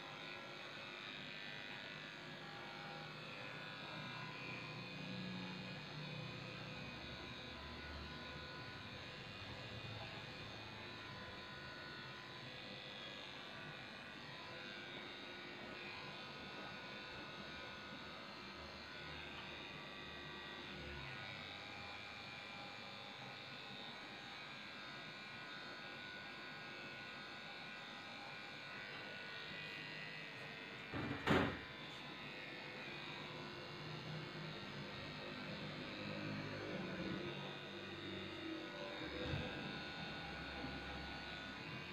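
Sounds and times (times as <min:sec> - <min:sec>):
electric clippers running: 0:00.0 - 0:41.9.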